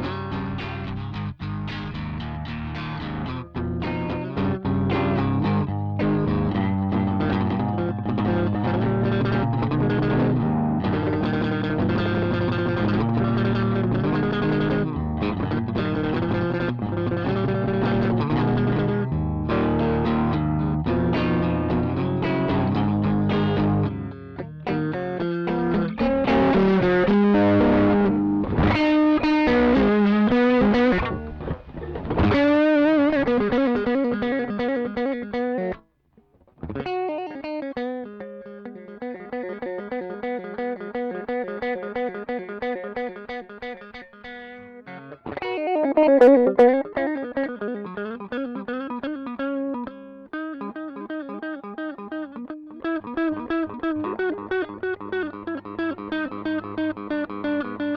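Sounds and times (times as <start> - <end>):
overdriven electric guitar: 0.0 - 57.9.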